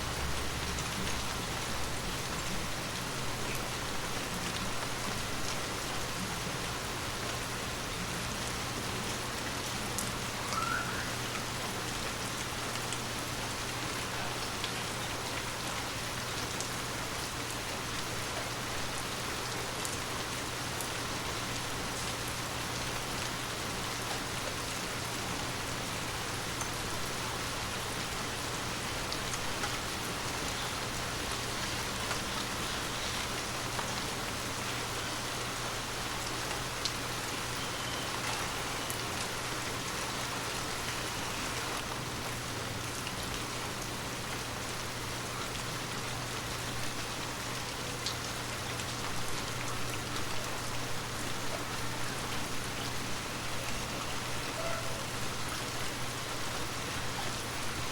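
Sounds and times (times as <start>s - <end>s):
heavy rain on hard ground: 0.0s - 57.9s.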